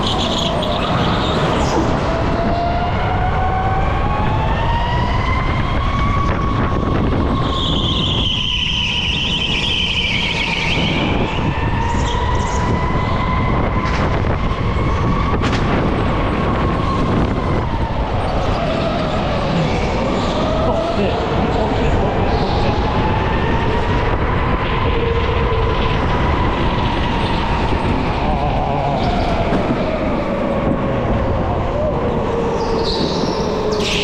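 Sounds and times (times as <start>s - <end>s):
rumble of wheels and wind: 0.0s - 34.0s.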